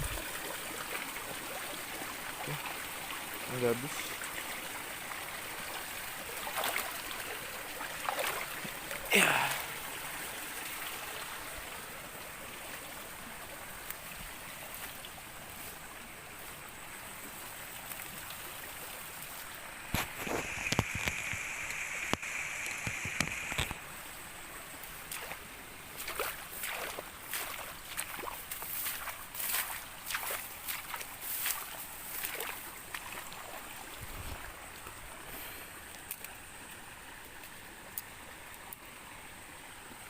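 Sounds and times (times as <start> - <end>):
stream water flowing: 0.0 - 40.0.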